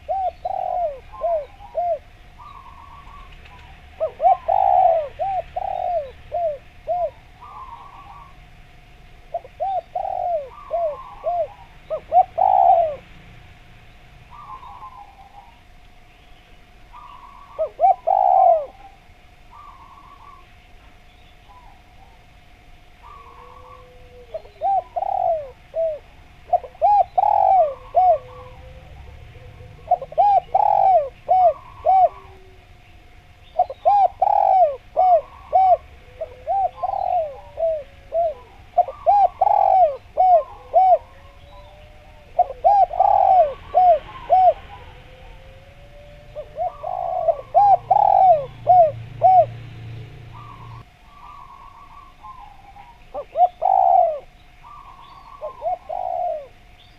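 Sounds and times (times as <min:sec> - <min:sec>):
dove cooing: 0:00.0 - 0:08.6, 0:09.2 - 0:13.2, 0:14.2 - 0:15.8, 0:16.8 - 0:56.9
small birds chirping: 0:00.0 - 0:08.6, 0:09.2 - 0:22.3, 0:22.9 - 0:56.9
faint steady tone: 0:00.0 - 0:56.9.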